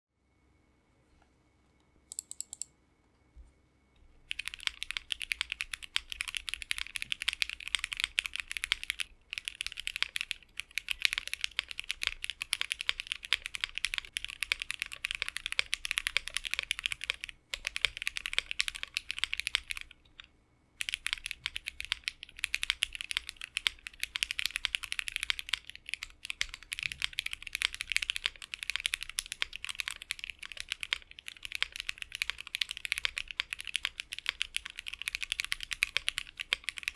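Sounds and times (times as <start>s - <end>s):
mechanical keyboard typing: 2.1s - 2.7s, 4.3s - 36.9s.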